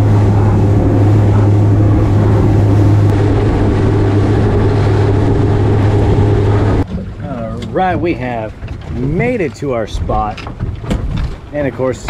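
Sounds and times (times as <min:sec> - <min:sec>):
outboard engine drone: 0:00.0 - 0:12.0
water rushing: 0:00.0 - 0:12.0.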